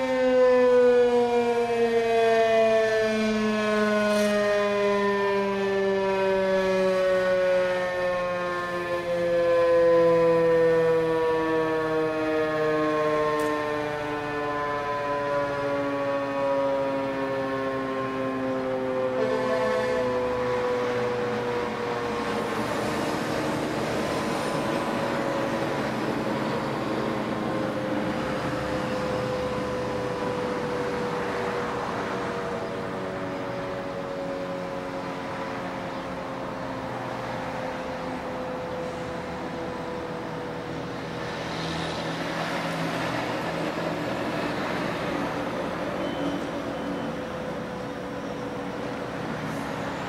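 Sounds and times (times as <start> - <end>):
road traffic noise: 0.0 - 50.0
siren winding down: 0.0 - 50.0.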